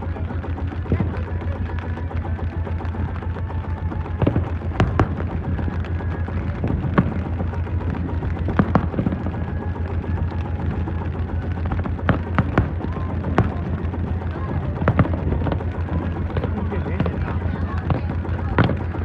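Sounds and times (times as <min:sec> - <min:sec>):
fireworks bursting with bangs: 0:00.0 - 0:19.0
low rumble: 0:00.0 - 0:19.0.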